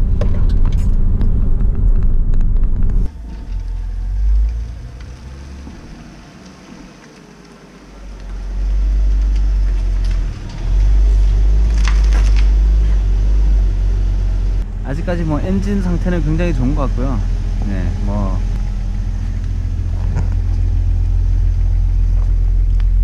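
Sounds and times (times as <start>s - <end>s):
car engine and exhaust rumble: 0.0s - 23.0s
exhaust crackles: 0.0s - 23.0s.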